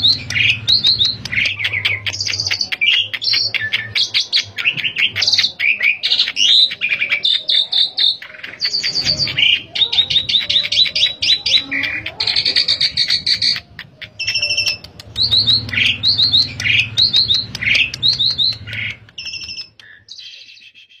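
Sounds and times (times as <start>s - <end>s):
starling singing chirps and whistles: 0.0s - 21.0s.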